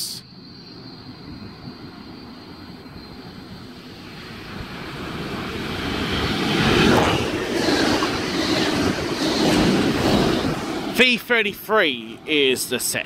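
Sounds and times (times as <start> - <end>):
train wheels rumbling on rails: 1.3 - 13.0.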